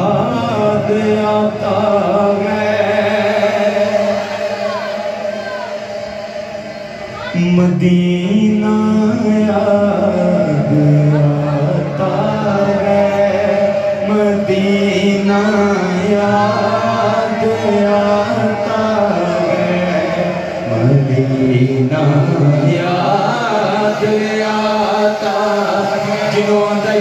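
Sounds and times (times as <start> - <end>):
men singing unaccompanied: 0.0 - 4.6, 7.4 - 27.0.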